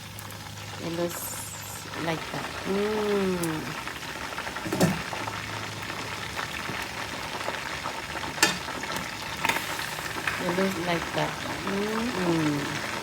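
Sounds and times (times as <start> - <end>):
chicken frying in hot oil: 0.0 - 13.0
oil popping: 1.9 - 13.0.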